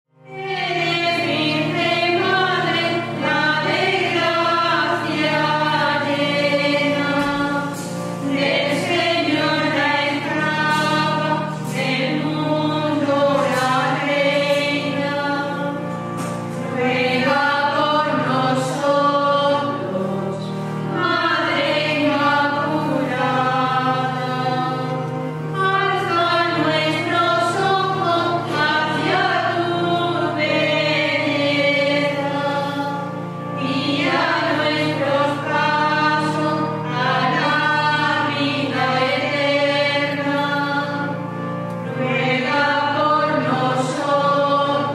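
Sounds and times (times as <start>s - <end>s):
low held accompaniment: 0.2s - 44.9s
women singing hymn in chorus: 0.3s - 44.9s.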